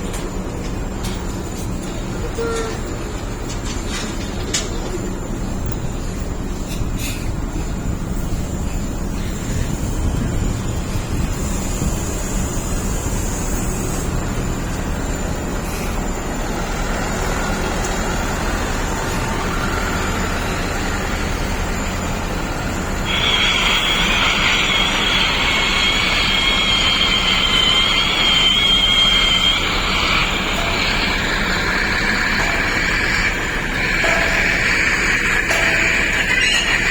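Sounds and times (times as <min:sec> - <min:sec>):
bulldozer engine rumbling: 0:00.0 - 0:36.9
high steady whine: 0:00.0 - 0:36.9.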